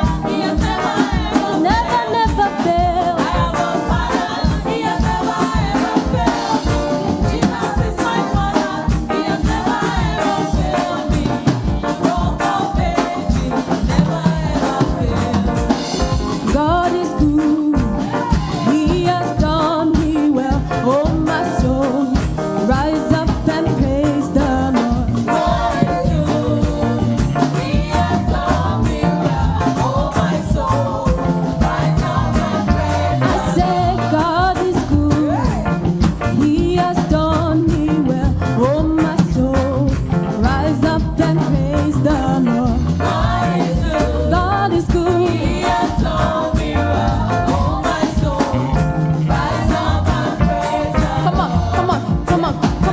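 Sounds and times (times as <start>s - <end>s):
singers over a band: 0.0s - 35.8s, 36.4s - 52.9s.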